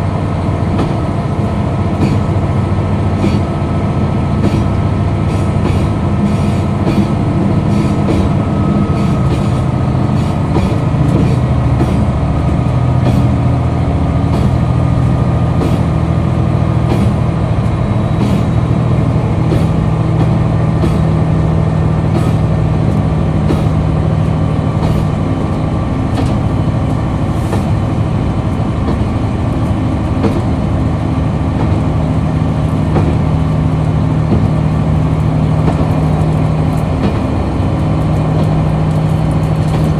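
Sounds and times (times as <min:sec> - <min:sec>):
diesel railcar engine droning: 0:00.0 - 0:39.9
wheels ticking over rails: 0:00.5 - 0:39.9.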